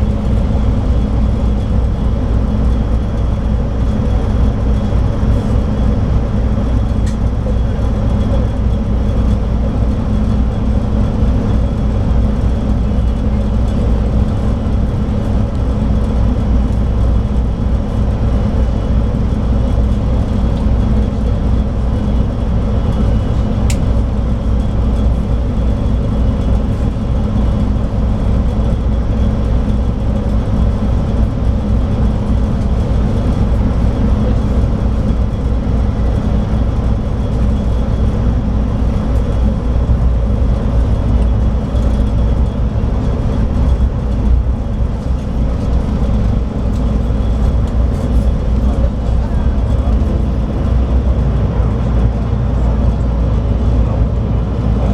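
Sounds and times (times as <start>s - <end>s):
diesel coach engine running: 0.0s - 54.9s
road noise: 0.0s - 54.9s.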